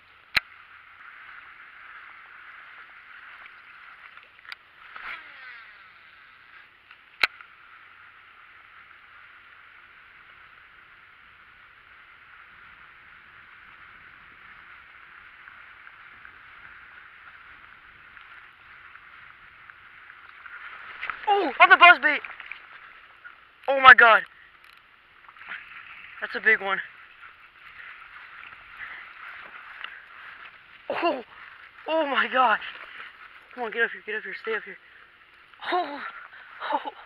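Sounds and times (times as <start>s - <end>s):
spinning blade churning water: 0.1s - 37.0s.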